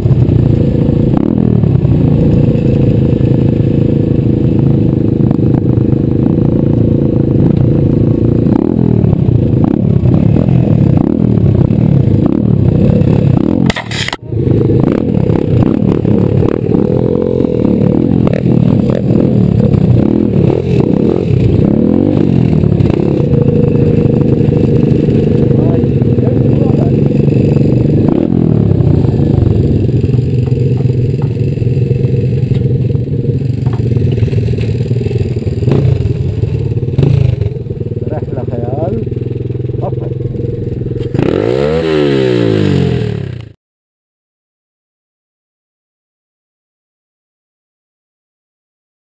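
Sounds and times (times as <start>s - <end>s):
motorbike engine revving: 0.0s - 43.6s.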